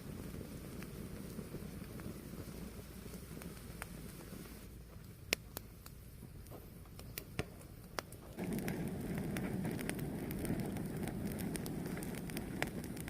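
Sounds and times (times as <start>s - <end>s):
fire crackling and popping: 0.0s - 13.0s
rush of flame: 0.0s - 13.0s.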